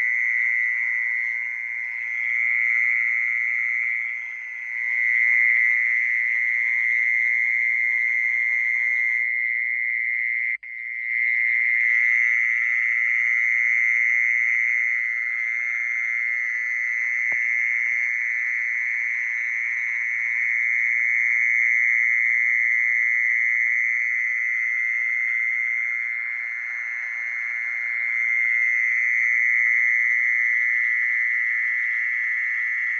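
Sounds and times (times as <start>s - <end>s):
insects droning: 0.0s - 32.9s.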